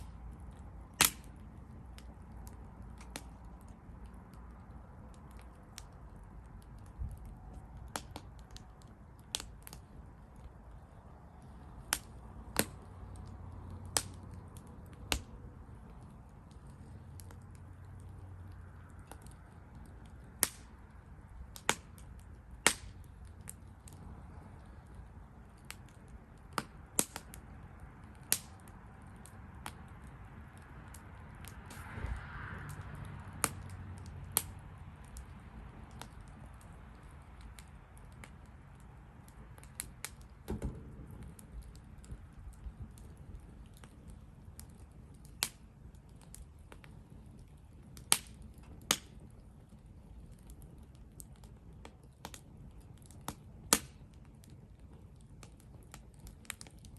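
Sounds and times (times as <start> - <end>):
fire hissing: 0.0 - 56.9
wood fire crackling: 0.0 - 56.9.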